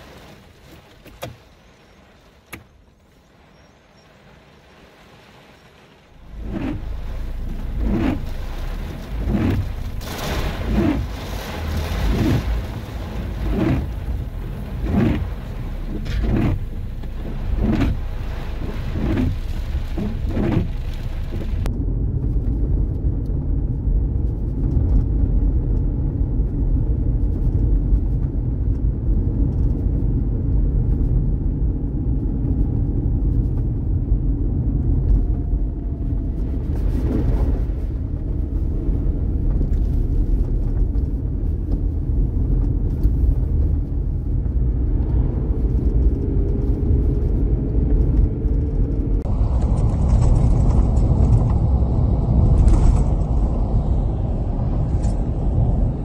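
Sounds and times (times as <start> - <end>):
low road rumble inside car: 6.0 - 56.0.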